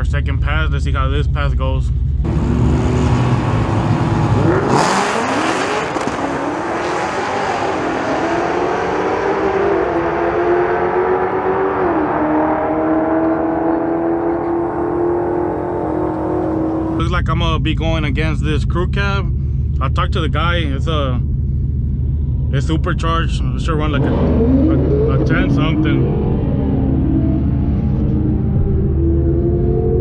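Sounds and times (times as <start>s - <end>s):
engine revving: 2.2s - 30.0s.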